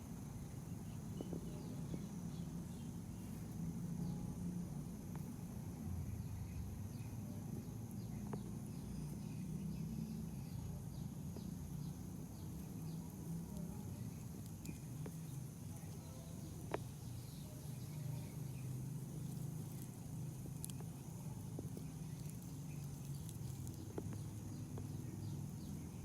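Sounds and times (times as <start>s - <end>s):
faint insect chirping: 0.0s - 26.0s.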